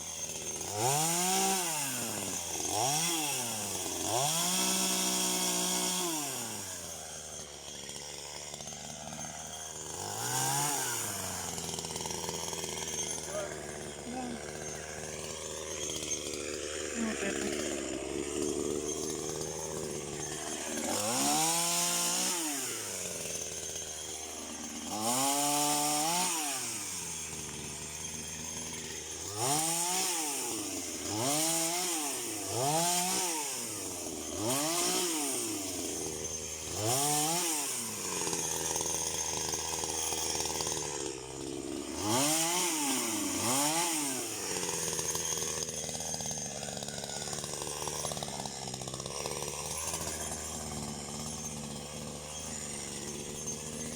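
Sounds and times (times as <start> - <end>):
chainsaw revving and idling: 0.0 - 53.9.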